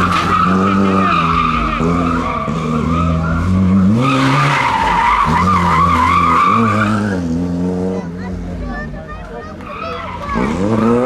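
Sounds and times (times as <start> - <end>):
rally car engine revving: 0.0 - 11.0
tyres squealing: 0.0 - 11.0.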